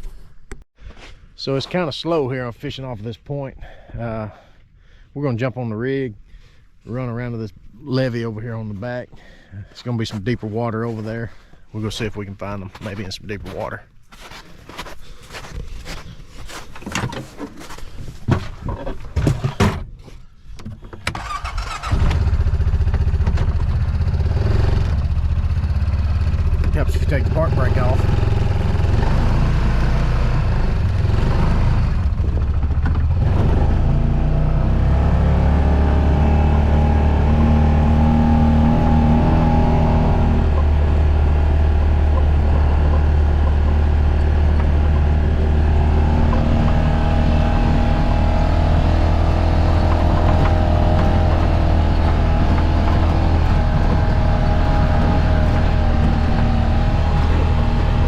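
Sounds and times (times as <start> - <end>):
vehicle engine on rough ground: 6.9 - 58.0.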